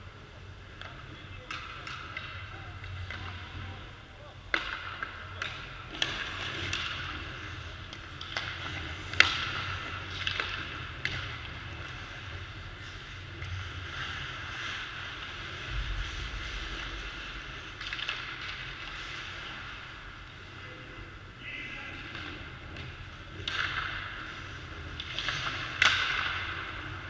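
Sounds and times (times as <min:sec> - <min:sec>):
sticks hitting pucks: 0:00.7 - 0:20.7, 0:21.5 - 0:27.0
pucks striking the boards: 0:00.8 - 0:03.8, 0:04.4 - 0:20.0, 0:21.6 - 0:27.0
skates scraping on ice: 0:01.4 - 0:27.0.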